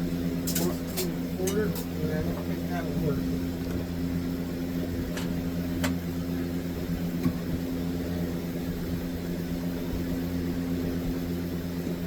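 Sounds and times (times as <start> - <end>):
low machine hum with tones: 0.0 - 12.0.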